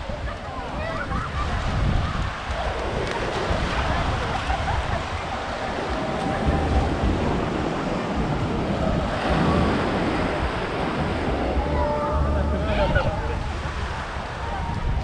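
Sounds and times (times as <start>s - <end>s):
small waves washing up beach: 0.0s - 15.0s
wind gusting on microphone: 0.0s - 15.0s.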